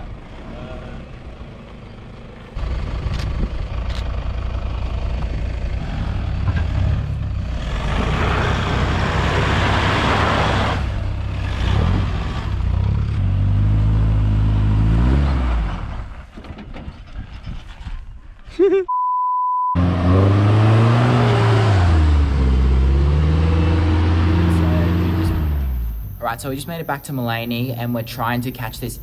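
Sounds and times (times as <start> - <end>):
truck engines under load: 0.0 - 18.8, 19.8 - 29.0.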